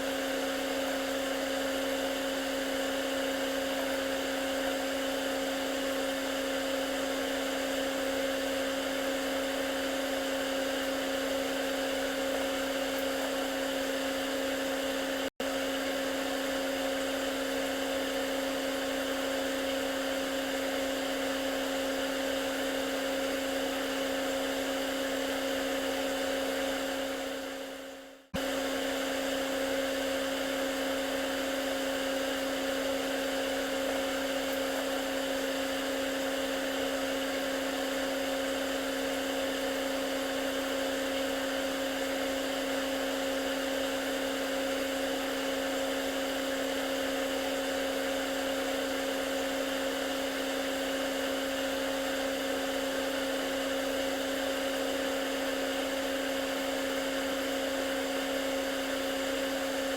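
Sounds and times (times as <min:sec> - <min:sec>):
motor hum with whine: 0:00.0 - 0:59.9.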